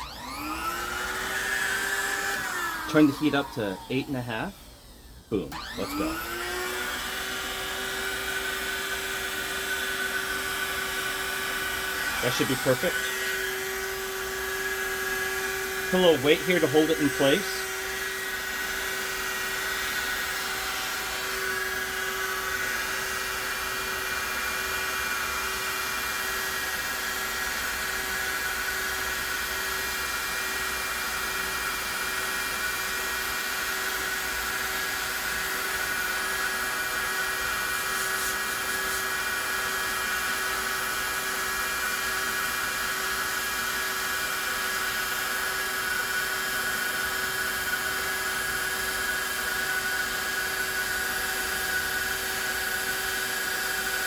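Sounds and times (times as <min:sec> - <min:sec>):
heat gun blower whine: 0:00.0 - 0:54.0.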